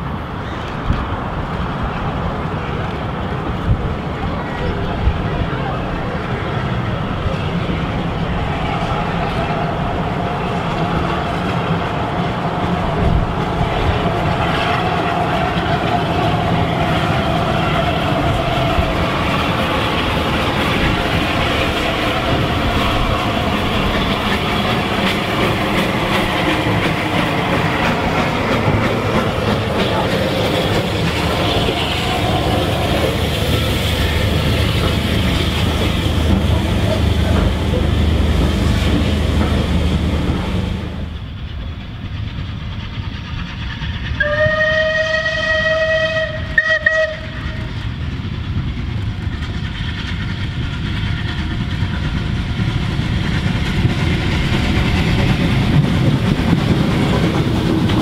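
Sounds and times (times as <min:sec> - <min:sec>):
steam locomotive running: 0:00.0 - 0:58.0
train wheels clattering over rail joints: 0:07.2 - 0:58.0.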